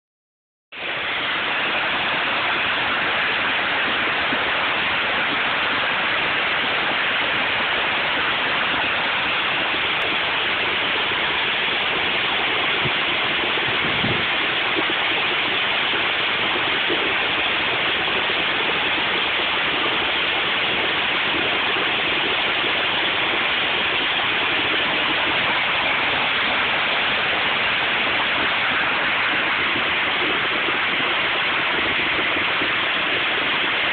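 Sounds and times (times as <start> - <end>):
floodwater rushing: 0.7 - 33.9.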